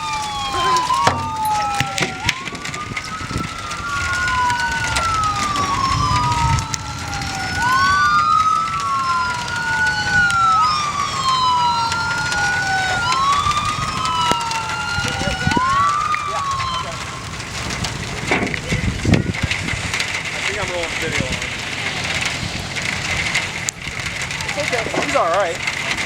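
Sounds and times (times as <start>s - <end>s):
emergency sirens wailing: 0.0s - 26.0s.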